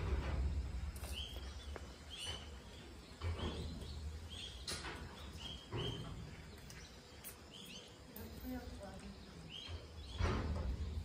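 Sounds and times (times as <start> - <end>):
bird chirping: 1.0 - 11.0.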